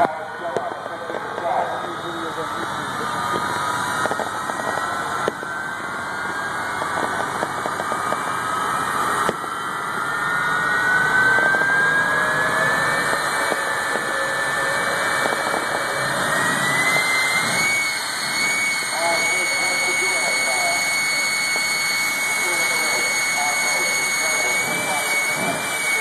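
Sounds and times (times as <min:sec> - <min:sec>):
jet engine whine rising: 0:00.0 - 0:26.0.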